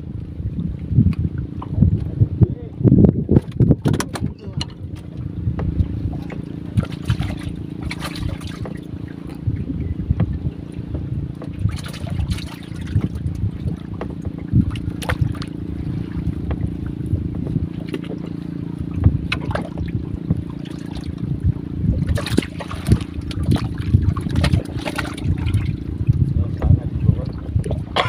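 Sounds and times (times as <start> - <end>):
steady low hum: 0.0 - 28.0
water lapping against boat hull: 0.0 - 28.0
small splashes and knocks: 3.3 - 9.5, 10.2 - 21.4, 22.0 - 28.0.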